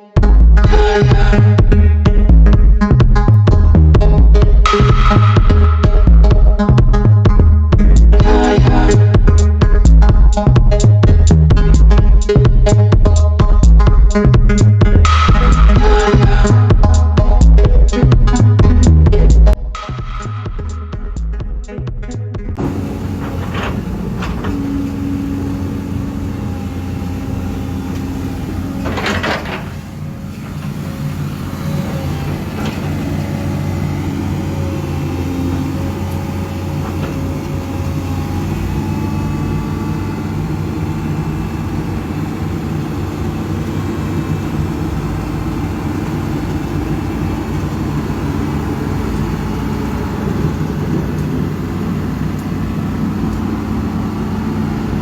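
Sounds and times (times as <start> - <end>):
diesel engine running: 0.0 - 19.6, 22.6 - 55.0.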